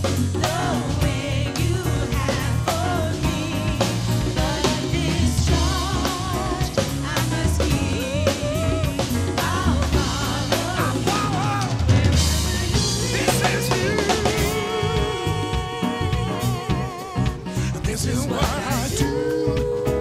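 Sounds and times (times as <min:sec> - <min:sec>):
drum kit beat: 0:00.0 - 0:20.0
gospel band playing: 0:00.0 - 0:20.0.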